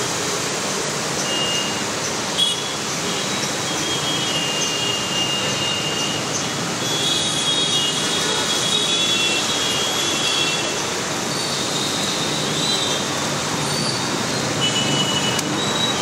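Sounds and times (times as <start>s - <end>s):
tyres through floodwater: 0.0s - 16.0s
motorbike engines: 0.6s - 16.0s.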